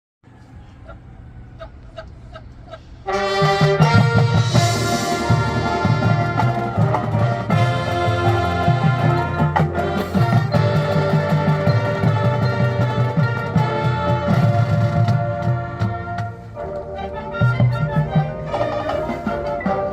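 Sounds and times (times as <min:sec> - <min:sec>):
marching band playing: 0:03.0 - 0:19.9.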